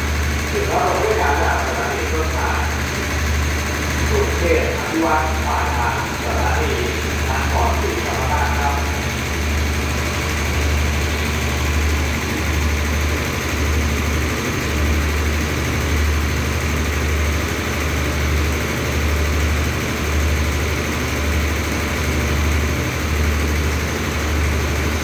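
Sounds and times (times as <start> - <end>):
diesel engine idling hum: 0.0 - 25.0.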